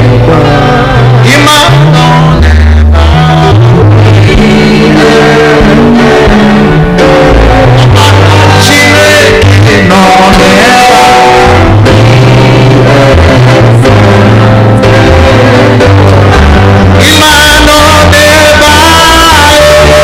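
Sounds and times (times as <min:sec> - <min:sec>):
church band worship music: 0:00.0 - 0:20.0
voices singing: 0:00.0 - 0:20.0.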